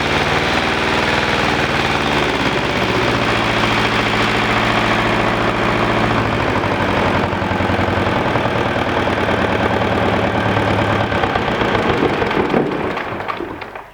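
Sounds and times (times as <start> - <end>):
marine diesel engine knocking: 0.0 - 13.9.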